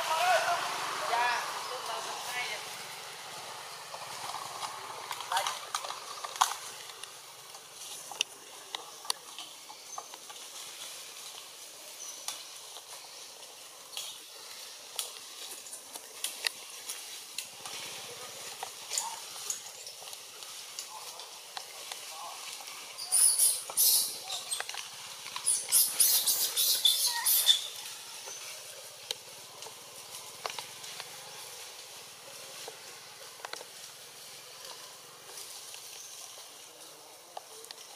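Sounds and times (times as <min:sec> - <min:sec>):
leaves and twigs crackling: 0:00.0 - 0:37.9
steady high hiss: 0:00.0 - 0:37.9.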